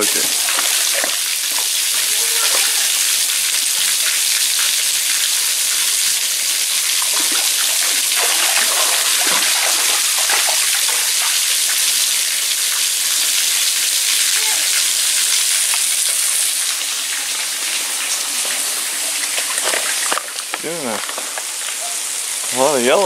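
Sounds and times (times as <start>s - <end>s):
waterfall splashing into pool: 0.0s - 23.0s.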